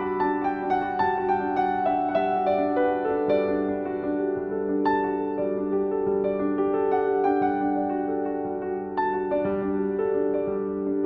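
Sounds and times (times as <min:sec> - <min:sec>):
gentle piano melody: 0:00.0 - 0:11.0.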